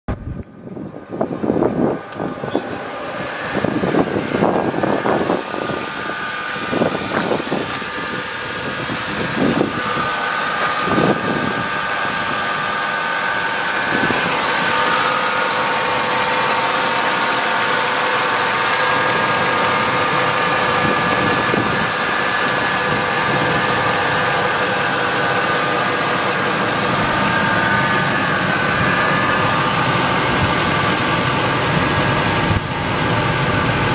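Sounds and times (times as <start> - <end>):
pickup engine idling: 0.2 - 33.9.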